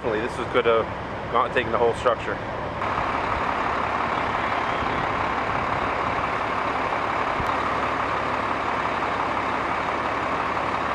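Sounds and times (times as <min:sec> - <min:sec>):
fire truck engine rumbling: 0:00.0 - 0:10.9.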